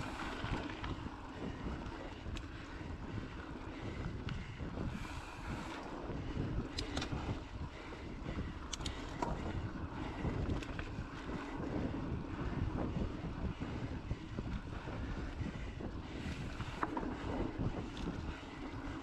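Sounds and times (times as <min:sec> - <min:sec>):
bike clicks and rattles: 0:00.0 - 0:19.0
wind on microphone: 0:00.0 - 0:19.0.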